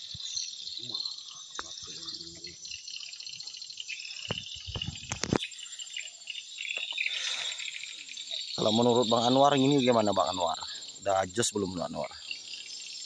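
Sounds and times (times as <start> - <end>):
swiftlets chirping and twittering: 0.0 - 13.0.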